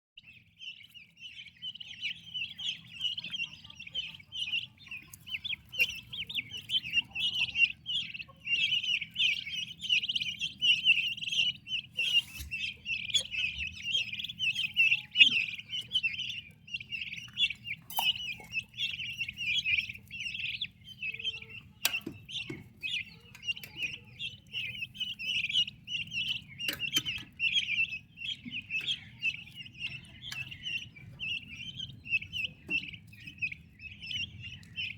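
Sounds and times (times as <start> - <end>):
turkey poults peeping: 0.2 - 34.9.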